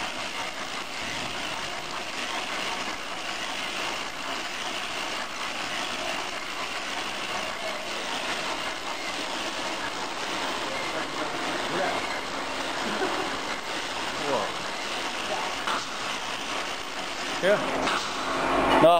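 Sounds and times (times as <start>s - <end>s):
knitting machine running: 0.0s - 18.2s.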